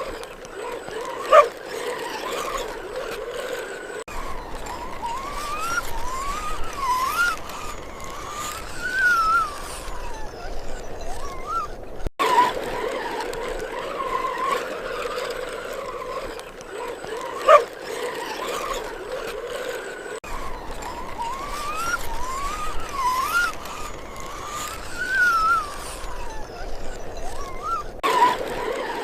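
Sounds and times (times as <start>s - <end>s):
electric motor whine: 0.0s - 29.0s.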